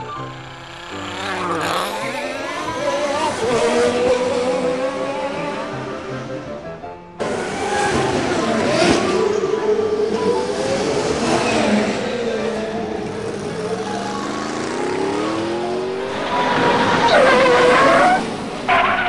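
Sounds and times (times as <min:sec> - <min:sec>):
race car engine revving: 0:00.0 - 0:19.0.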